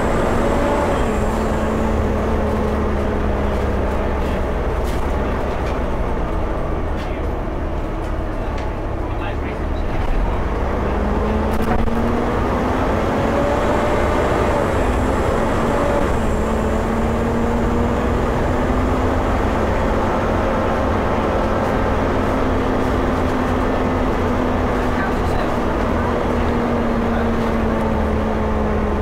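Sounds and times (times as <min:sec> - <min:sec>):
bus diesel engine whining: 0:00.0 - 0:29.0.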